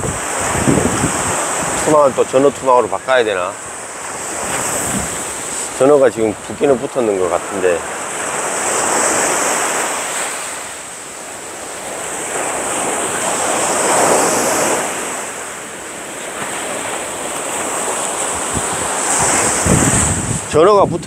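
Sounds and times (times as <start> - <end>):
small waves breaking on sand: 0.0 - 21.0.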